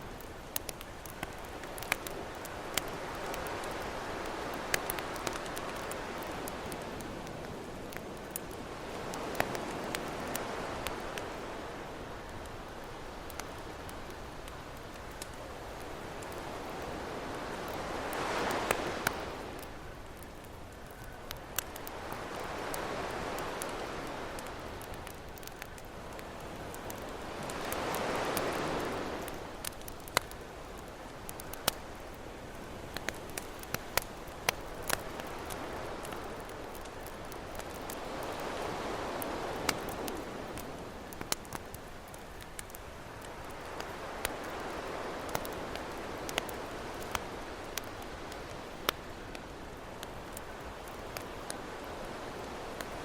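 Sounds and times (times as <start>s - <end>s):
ocean surf: 0.0s - 41.7s, 42.6s - 53.0s
campfire crackling: 0.0s - 53.0s.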